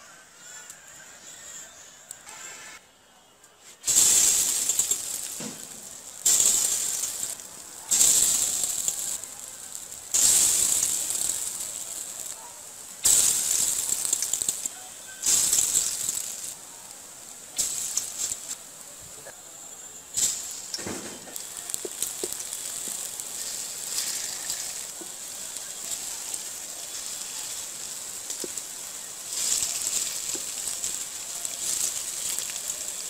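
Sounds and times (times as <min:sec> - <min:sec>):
food sizzling in hot oil: 0:03.8 - 0:33.0.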